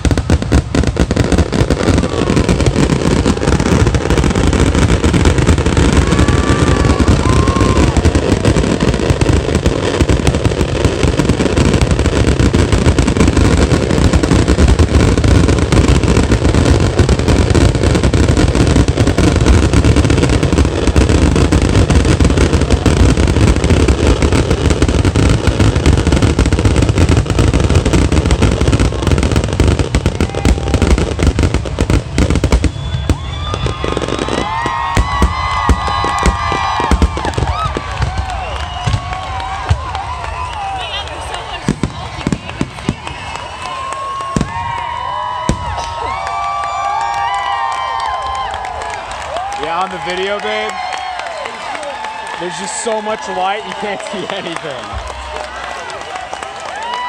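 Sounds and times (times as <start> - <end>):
fireworks bursts and crackle: 0.0 - 57.0.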